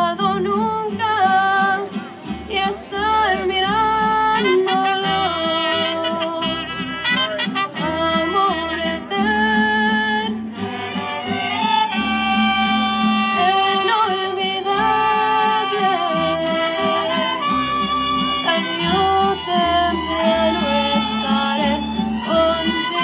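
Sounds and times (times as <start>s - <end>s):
mariachi band playing slow song: 0.0s - 23.0s.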